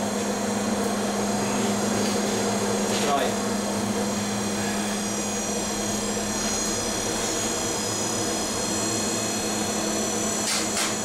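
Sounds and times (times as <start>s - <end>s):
blower fan droning: 0.0s - 11.0s
high machine whines: 0.0s - 11.0s.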